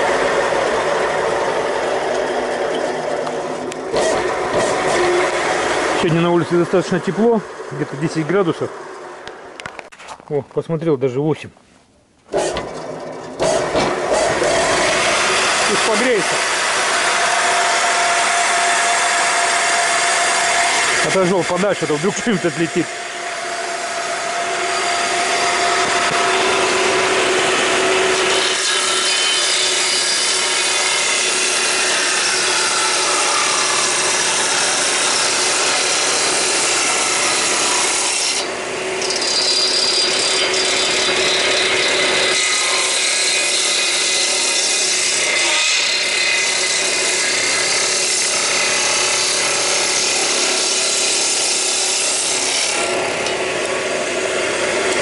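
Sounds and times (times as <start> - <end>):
table saw cutting wood: 0.0 - 9.2, 12.3 - 55.0.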